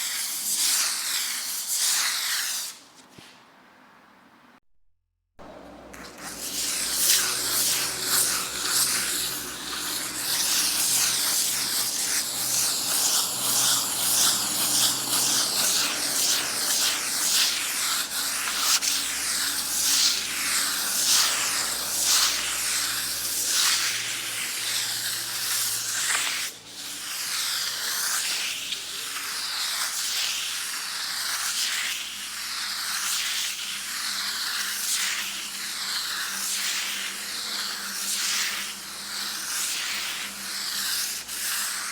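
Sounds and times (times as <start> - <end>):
sandpaper scratching on wall: 0.0 - 3.5, 5.7 - 41.9.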